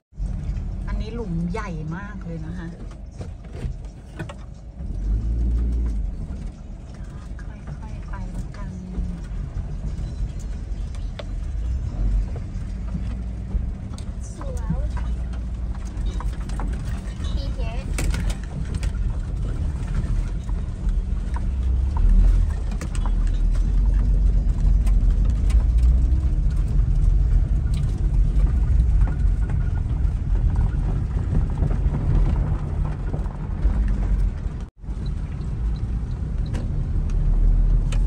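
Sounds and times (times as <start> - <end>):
engine and tyres rumbling: 0.0 - 38.0
knocks and rattles: 2.5 - 38.0.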